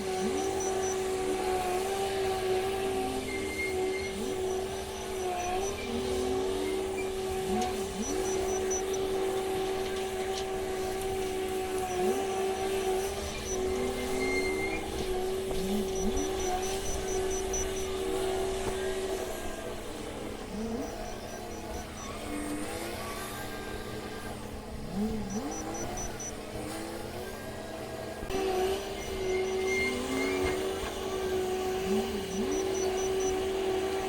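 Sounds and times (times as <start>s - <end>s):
faint high ticking: 0.0s - 26.8s, 28.3s - 34.0s
wheel loader engine revving: 0.0s - 34.0s.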